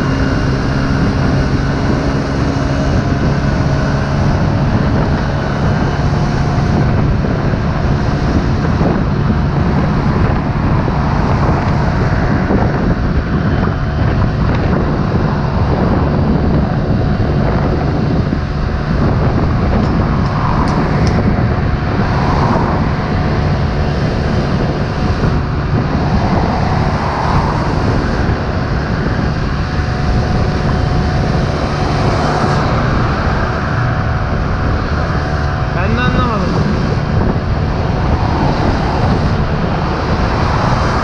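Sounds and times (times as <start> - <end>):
scooter engine running: 0.0 - 41.0
wind rushing over microphone: 0.0 - 41.0.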